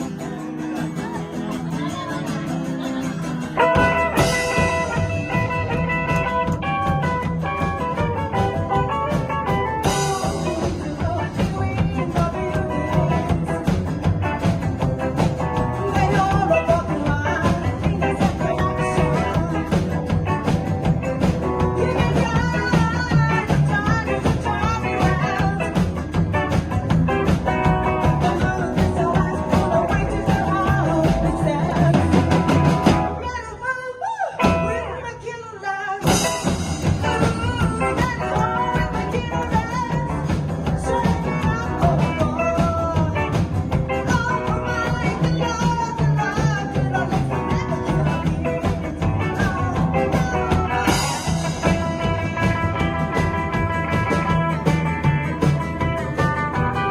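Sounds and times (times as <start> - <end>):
person singing: 0.0 - 56.9
rockabilly band playing live: 0.0 - 56.9.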